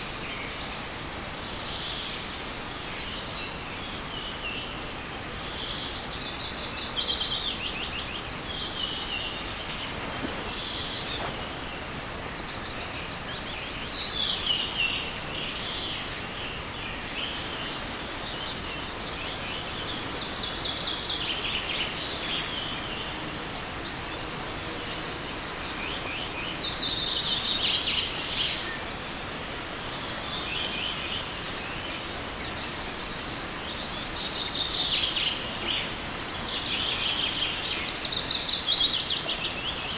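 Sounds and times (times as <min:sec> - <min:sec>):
forest stream rushing: 0:00.0 - 0:39.9
songbirds trilling: 0:03.0 - 0:39.9.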